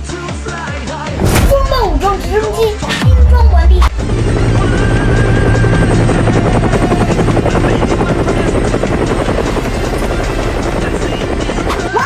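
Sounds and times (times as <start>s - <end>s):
helicopter rotor chop: 1.7s - 12.0s.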